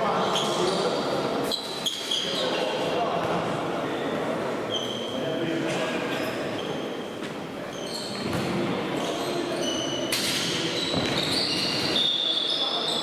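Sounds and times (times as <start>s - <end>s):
shoes squeaking on court floor: 0.2s - 5.2s, 6.1s - 13.0s.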